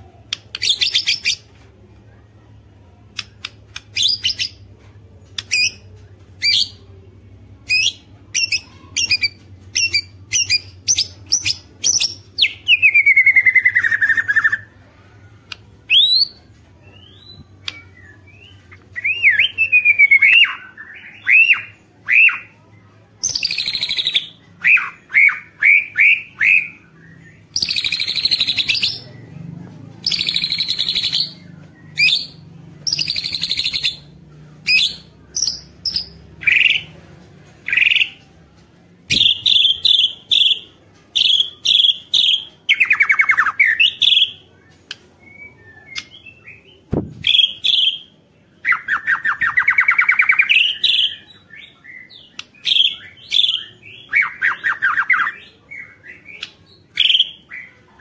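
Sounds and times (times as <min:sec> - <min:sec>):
bird singing whistled notes and trills: 0:00.3 - 0:01.5, 0:03.9 - 0:04.6, 0:07.6 - 0:14.7, 0:15.9 - 0:22.5, 0:23.2 - 0:29.1, 0:30.0 - 0:36.9, 0:39.1 - 0:58.0.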